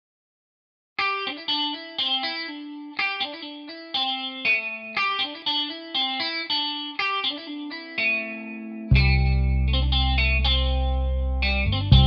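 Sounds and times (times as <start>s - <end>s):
guitar picking single notes: 1.0s - 12.0s.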